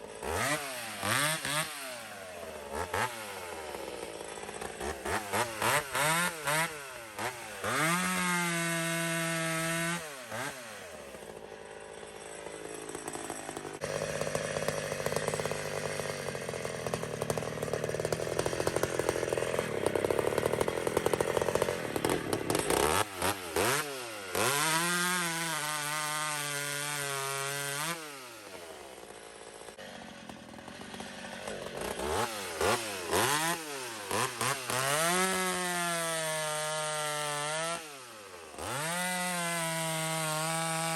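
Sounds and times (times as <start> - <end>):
chainsaw cutting through wood: 0.0 - 40.9
chainsaw revving: 0.0 - 40.9.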